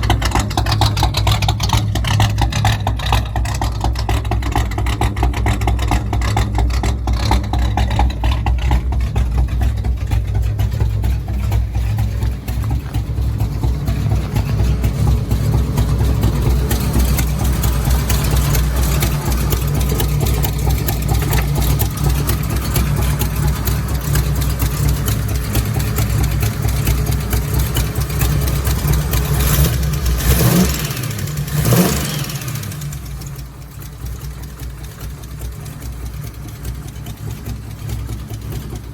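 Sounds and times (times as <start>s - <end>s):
engine revving: 0.0s - 33.5s
engine idling with choppy rumble: 0.0s - 38.9s.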